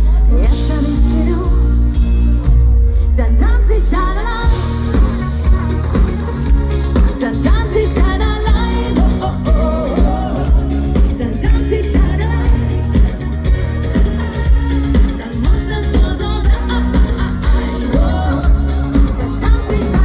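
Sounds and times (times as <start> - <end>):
pop band with pulsing bass: 0.0 - 20.0
woman singing: 0.0 - 20.0.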